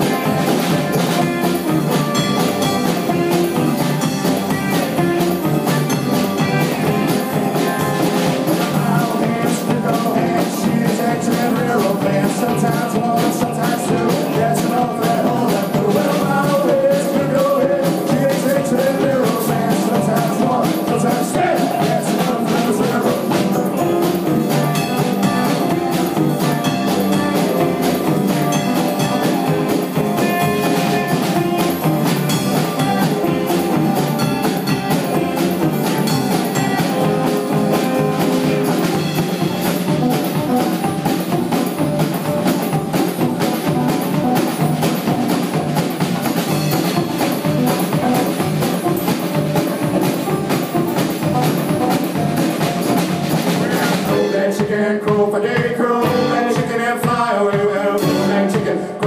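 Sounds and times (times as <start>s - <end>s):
banjo: 0.0s - 54.5s
upright bass: 0.0s - 54.6s, 55.5s - 57.2s, 58.0s - 58.8s
drum kit steady beat: 0.0s - 59.0s.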